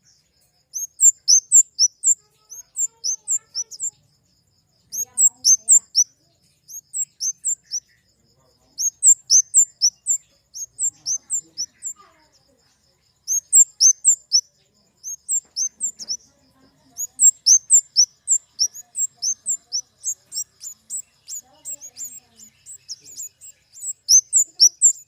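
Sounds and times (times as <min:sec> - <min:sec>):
bird calling high chips: 0:00.8 - 0:04.0, 0:04.9 - 0:07.9, 0:08.7 - 0:12.4, 0:13.3 - 0:25.0.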